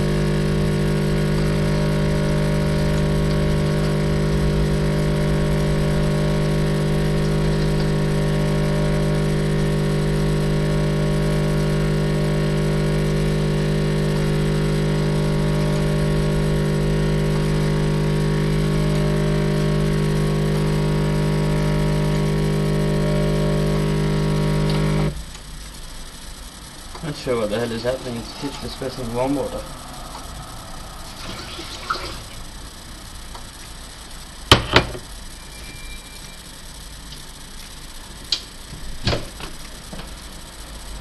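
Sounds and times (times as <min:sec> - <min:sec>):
coffee machine pump humming: 0:00.0 - 0:41.0.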